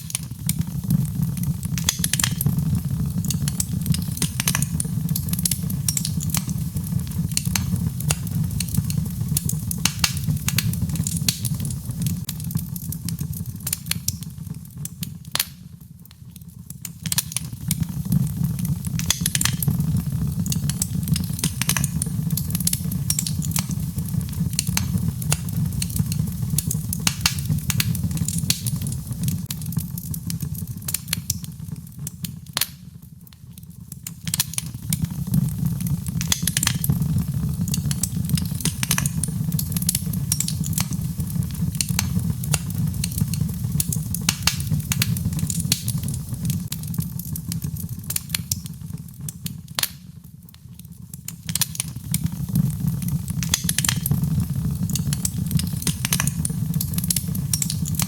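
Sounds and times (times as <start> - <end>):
logs crackling in fireplace: 0.0 - 58.0.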